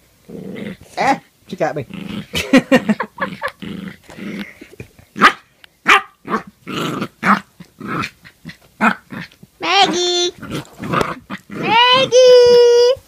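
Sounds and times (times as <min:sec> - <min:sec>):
puppy growling and yapping: 0:00.2 - 0:12.6.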